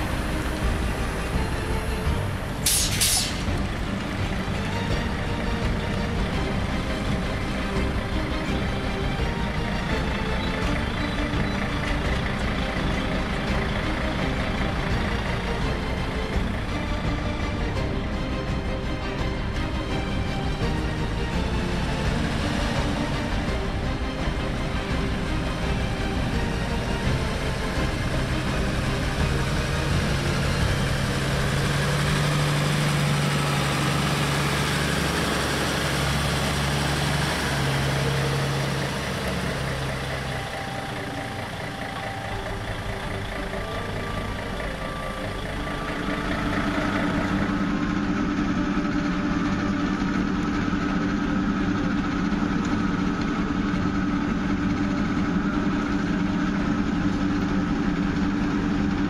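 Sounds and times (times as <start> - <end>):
diesel engines running: 0.0 - 59.0
higher engine note: 0.0 - 59.0.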